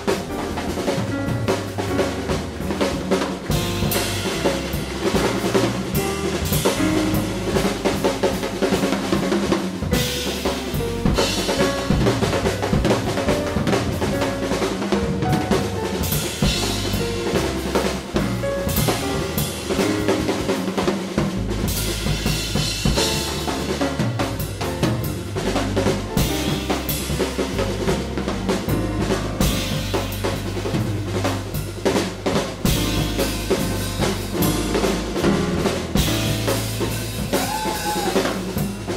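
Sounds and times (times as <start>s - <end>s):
drum-led background music: 0.0s - 38.9s.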